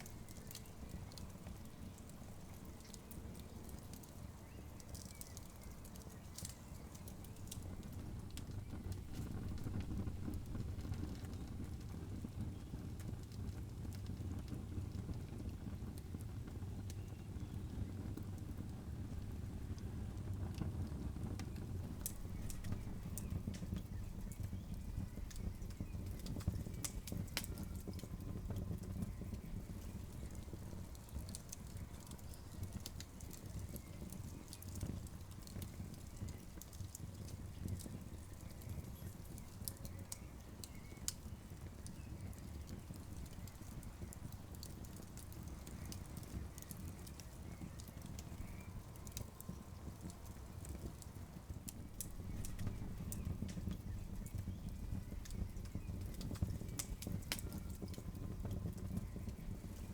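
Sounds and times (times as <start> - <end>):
campfire crackling and popping: 0.0 - 59.9
fire low rumble: 0.0 - 59.9.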